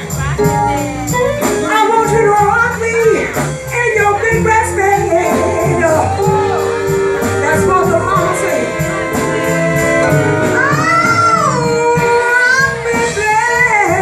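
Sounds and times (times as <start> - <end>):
high percussion beat: 0.0 - 14.0
live band music: 0.0 - 14.0.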